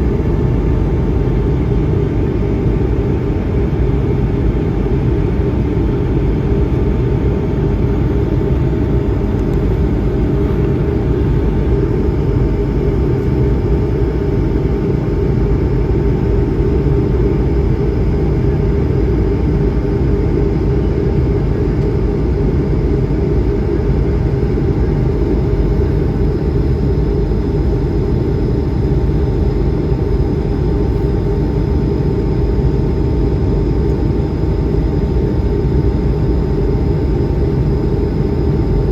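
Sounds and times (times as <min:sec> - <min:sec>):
aircraft cabin engine and air noise: 0:00.0 - 0:38.9
turbofan hums: 0:00.0 - 0:38.9.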